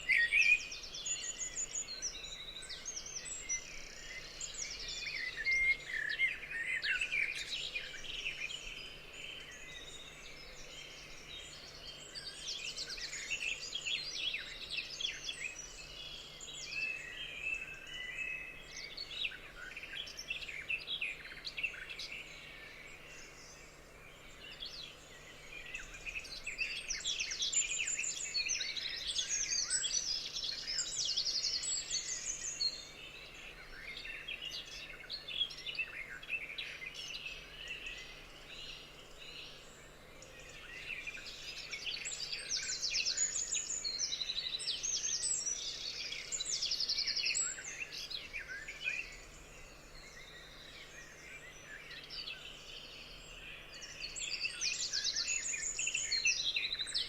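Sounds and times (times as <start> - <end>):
forest birds singing: 0.0 - 57.0.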